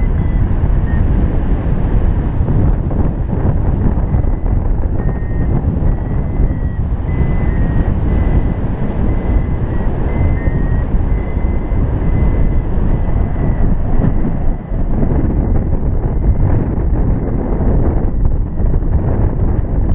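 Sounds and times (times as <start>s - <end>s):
variometer beeping: 0.0s - 1.2s, 4.0s - 19.9s
wind buffeting microphone: 0.0s - 19.9s.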